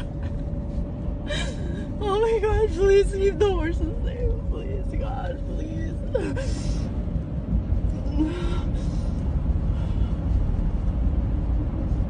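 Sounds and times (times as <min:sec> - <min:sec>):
car driving road and engine rumble: 0:00.0 - 0:12.0.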